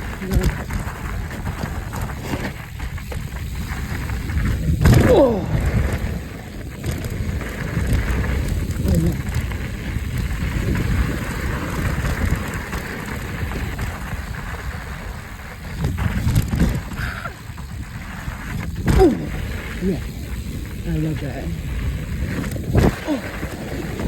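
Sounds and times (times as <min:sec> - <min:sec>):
bike tyres rolling on dirt: 0:00.0 - 0:24.0
wind buffeting microphone: 0:00.0 - 0:24.0.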